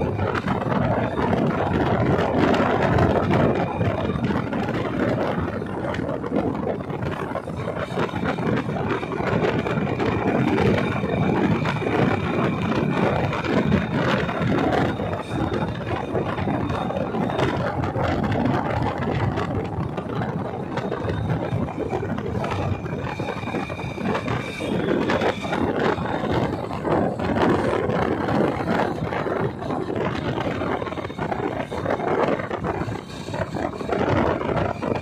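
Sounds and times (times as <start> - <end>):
motorcycle engine running: 0.0 - 35.0
road and traffic noise: 0.0 - 35.0.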